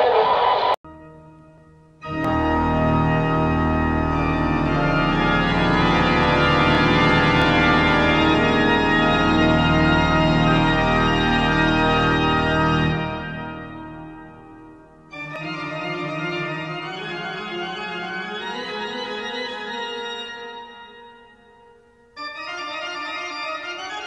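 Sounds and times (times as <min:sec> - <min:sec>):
organ chords: 0:00.8 - 0:24.0.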